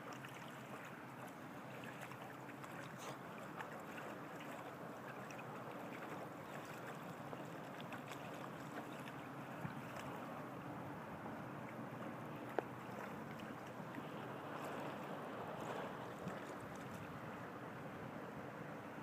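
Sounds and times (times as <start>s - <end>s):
water rushing along hull: 0.0s - 19.0s.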